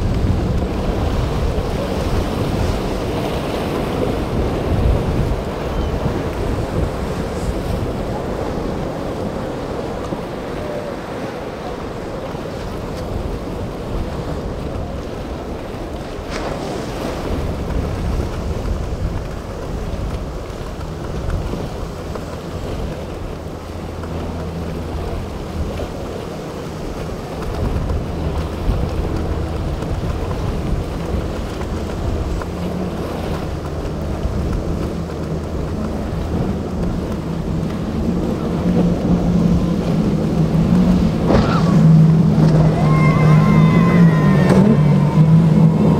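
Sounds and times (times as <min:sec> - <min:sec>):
boat engines droning: 0:00.0 - 0:45.9
waves breaking: 0:00.0 - 0:45.9
wind buffeting microphone: 0:00.0 - 0:45.9.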